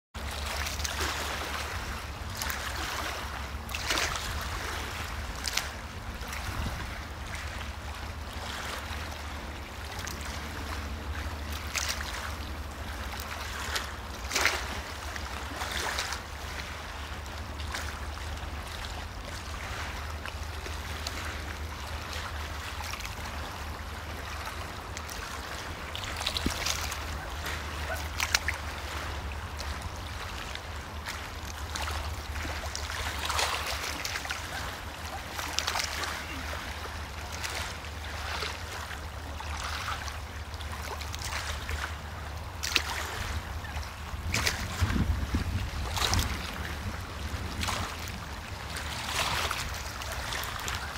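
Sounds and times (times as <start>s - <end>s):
water lapping: 0.2s - 50.9s
water splashes: 0.2s - 50.9s.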